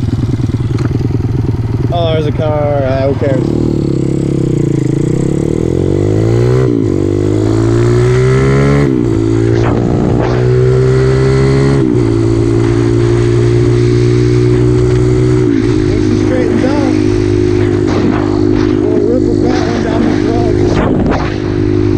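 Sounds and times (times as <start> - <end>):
small bike engine accelerating: 0.0 - 1.9, 2.5 - 21.9.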